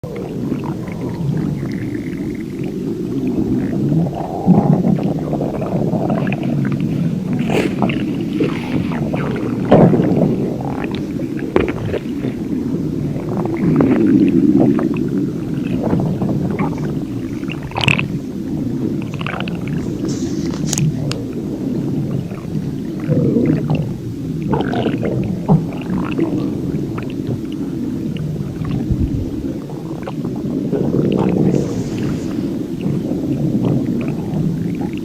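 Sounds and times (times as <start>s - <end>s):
stomach growling: 0.0s - 35.0s.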